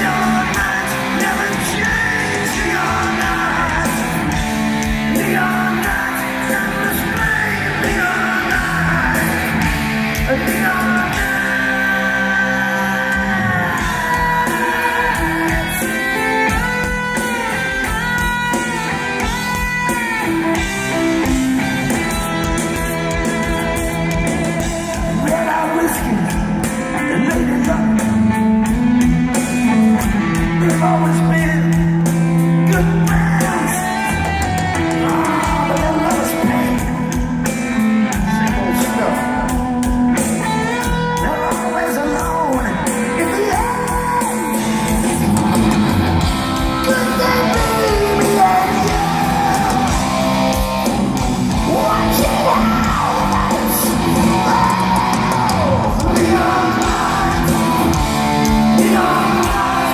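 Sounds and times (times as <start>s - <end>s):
man singing lead vocal: 0.0s - 21.3s, 24.9s - 37.6s, 38.2s - 45.0s, 46.6s - 59.9s
heavy metal band playing live: 0.0s - 59.9s.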